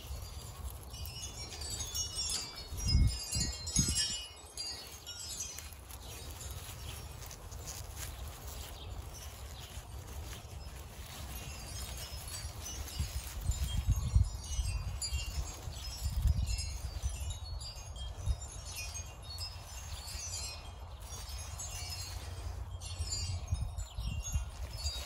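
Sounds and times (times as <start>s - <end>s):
high ringing chimes: 0.0s - 25.0s.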